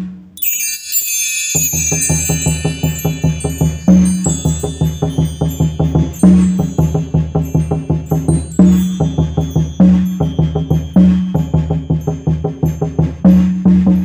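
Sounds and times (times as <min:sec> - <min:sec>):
chimes ringing: 0:00.4 - 0:14.0
fast drum pattern: 0:01.5 - 0:14.0.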